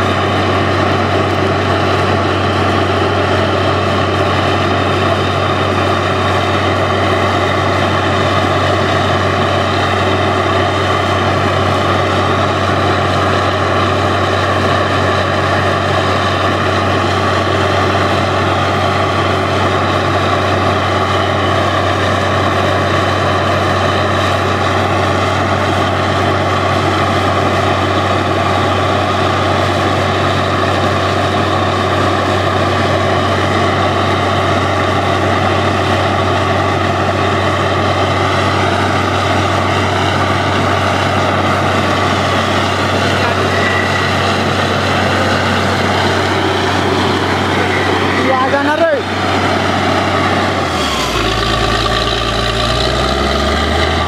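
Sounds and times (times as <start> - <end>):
engine and compressor drone: 0.0 - 54.0.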